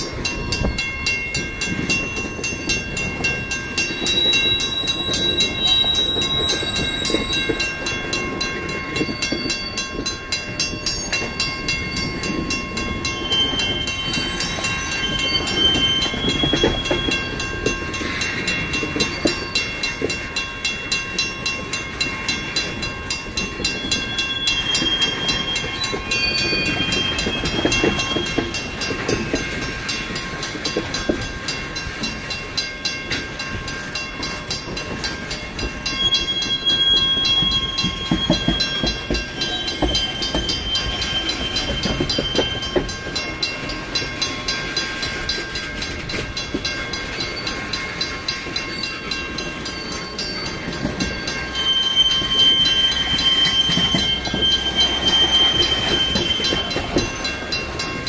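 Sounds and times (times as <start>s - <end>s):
crossing bell ringing: 0.0s - 58.0s
train wheels clacking on rails: 0.0s - 58.0s
high wheel squeals: 3.5s - 19.9s, 22.1s - 30.3s, 35.2s - 45.8s, 46.6s - 58.0s.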